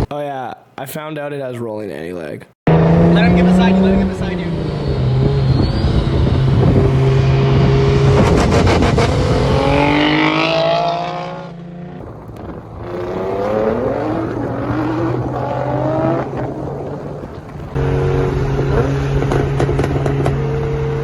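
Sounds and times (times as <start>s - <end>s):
car engine accelerating hard: 2.7s - 21.0s.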